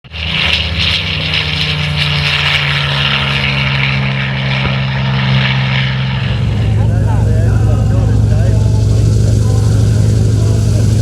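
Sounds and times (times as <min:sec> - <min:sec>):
radial aircraft engine droning: 0:00.0 - 0:11.0.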